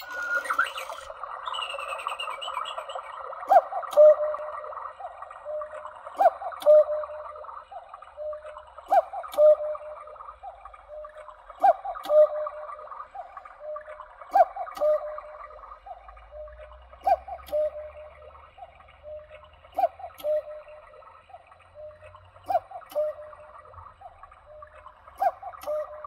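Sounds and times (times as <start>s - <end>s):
warbling chirping background: 0.0s - 26.0s.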